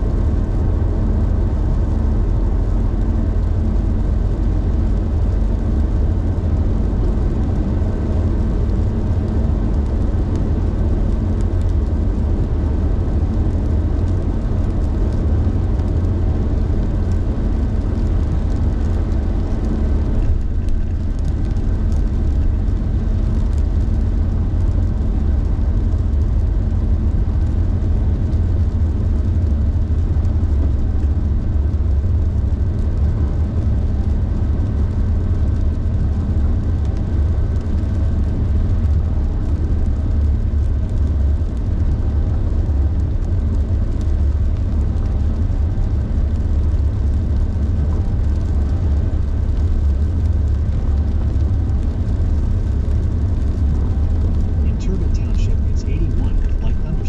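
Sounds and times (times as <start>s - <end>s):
car driving drone: 0.0s - 57.0s.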